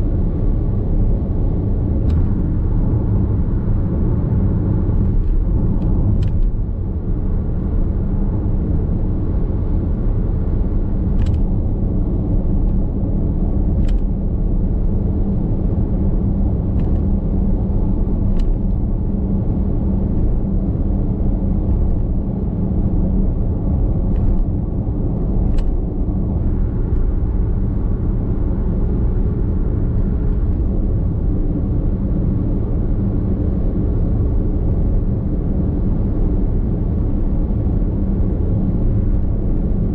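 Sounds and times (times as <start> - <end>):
road and tyre rumble in car: 0.0 - 39.9.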